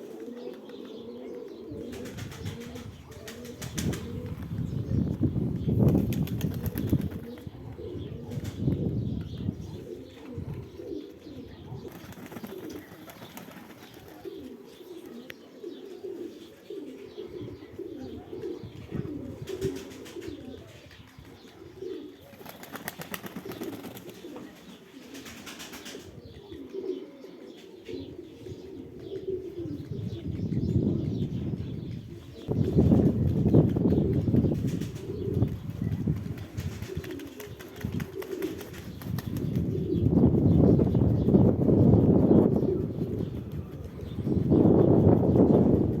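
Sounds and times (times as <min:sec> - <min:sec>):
pigeons cooing: 0:00.0 - 0:46.0.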